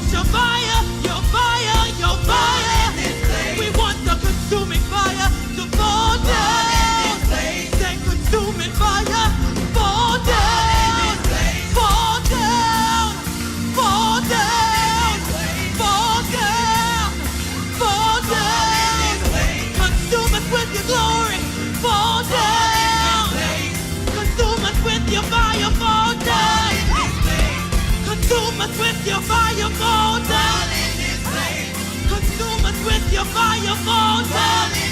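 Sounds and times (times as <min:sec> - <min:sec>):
band playing: 0:00.0 - 0:34.9
person singing with vibrato: 0:00.0 - 0:34.9.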